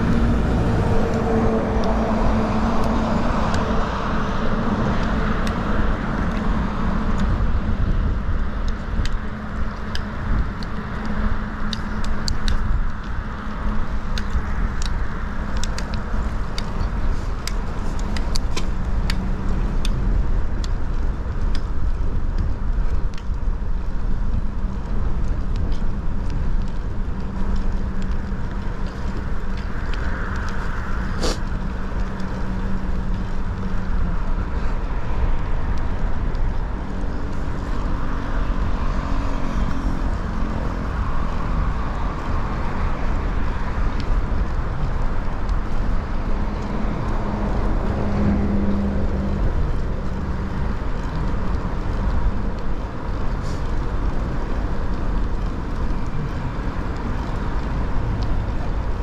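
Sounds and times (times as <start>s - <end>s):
bicycle clicks and rattles: 0.0s - 59.0s
cars passing: 0.0s - 59.0s
low traffic rumble: 0.0s - 59.0s.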